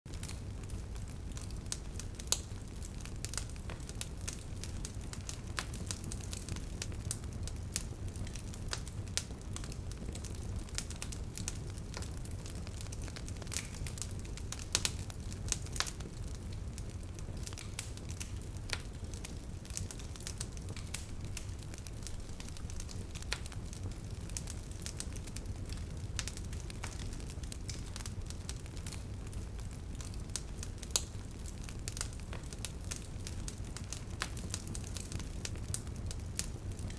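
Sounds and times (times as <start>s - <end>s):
low rumble of flames: 0.1s - 36.9s
wood fire crackling: 0.1s - 36.9s.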